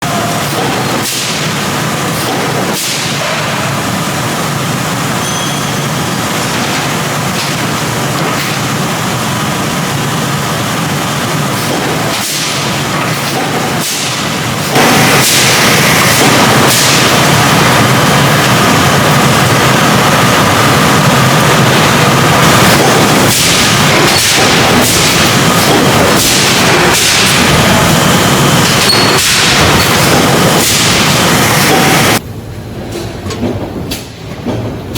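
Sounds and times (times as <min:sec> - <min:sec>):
industrial noise: 0:00.0 - 0:34.9
loud machinery noise: 0:00.0 - 0:34.9.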